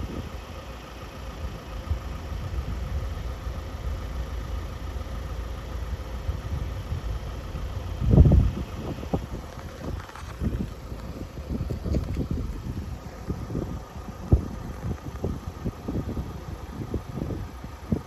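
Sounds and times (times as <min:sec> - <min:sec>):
diesel train engine rumbling: 0:00.0 - 0:18.0.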